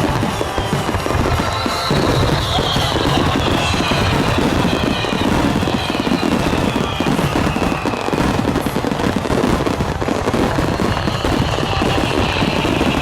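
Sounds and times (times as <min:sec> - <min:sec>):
fireworks bursts and crackles: 0:00.0 - 0:13.0
music playing: 0:00.0 - 0:13.0.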